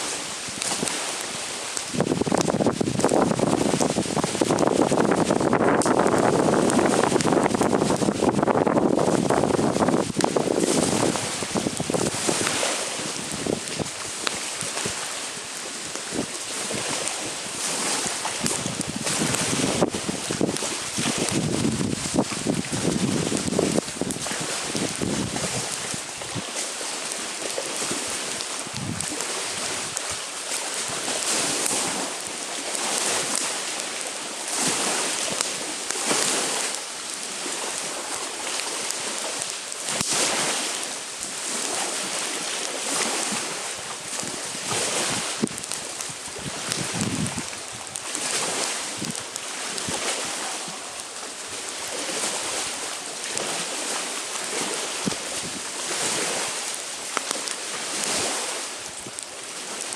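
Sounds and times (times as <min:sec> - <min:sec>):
campfire crackling: 0:00.0 - 0:59.9
waves washing onto shore: 0:00.0 - 0:59.9
wind: 0:00.0 - 0:59.9.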